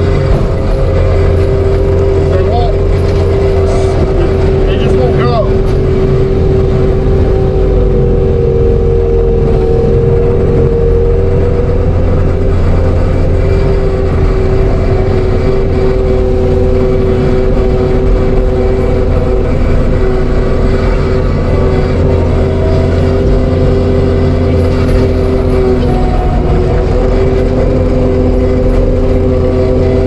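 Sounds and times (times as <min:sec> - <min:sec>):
diesel engine drone: 0:00.0 - 0:30.0
hydraulic whine: 0:00.0 - 0:30.0.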